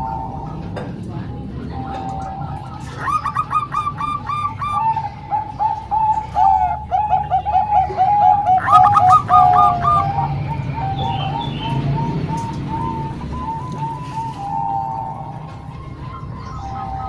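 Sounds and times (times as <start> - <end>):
higher-pitched dove cooing: 0.0 - 1.0, 1.7 - 17.0
doves cooing: 0.0 - 17.0.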